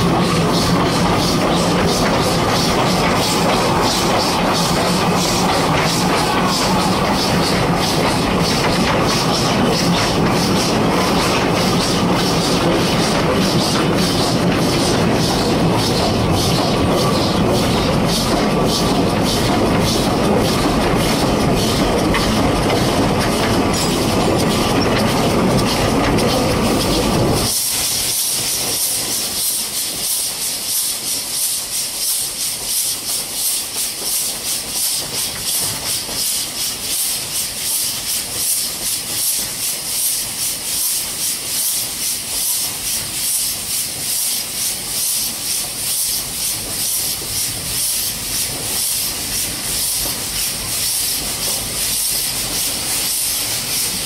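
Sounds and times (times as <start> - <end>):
hiss of steam: 0.0 - 54.0
train wheels on rails: 0.0 - 54.0.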